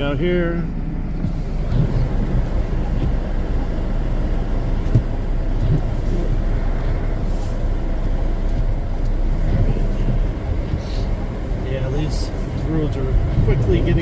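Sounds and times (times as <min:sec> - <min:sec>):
tyres and engine rumble in car: 0:00.0 - 0:14.0.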